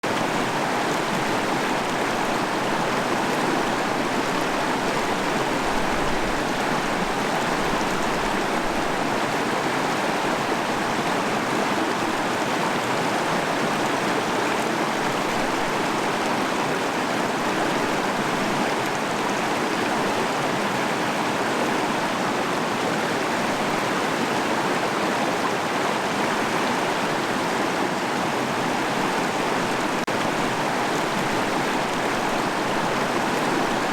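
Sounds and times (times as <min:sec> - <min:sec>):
stream water over rocks: 0:00.0 - 0:33.9.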